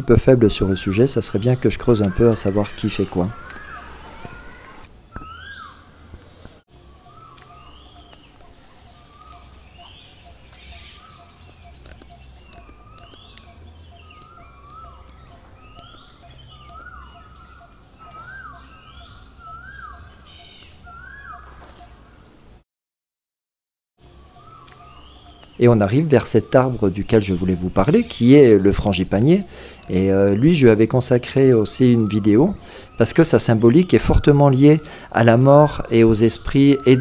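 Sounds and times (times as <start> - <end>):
birds chirping and calling: 0.0 - 22.6, 24.0 - 37.0.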